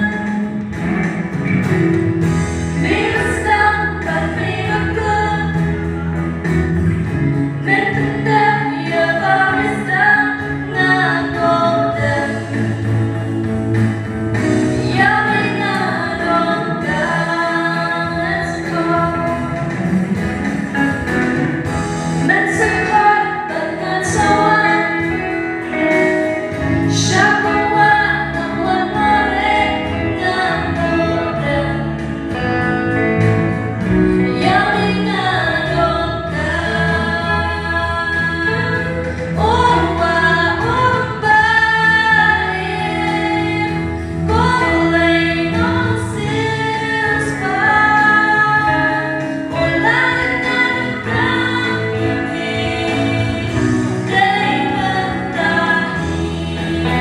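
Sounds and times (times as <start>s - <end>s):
low bass notes: 0.0s - 57.0s
choir singing gospel: 2.7s - 13.0s, 14.3s - 32.0s, 34.2s - 57.0s.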